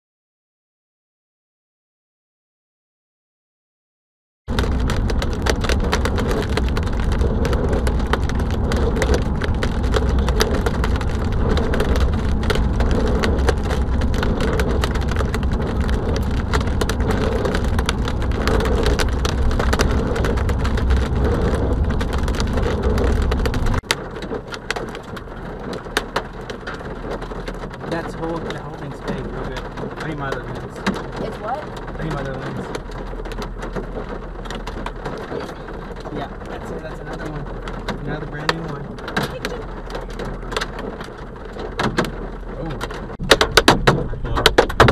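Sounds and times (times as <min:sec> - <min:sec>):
car road rumble: 0:04.5 - 0:44.9
hail pelting car roof: 0:04.5 - 0:44.9.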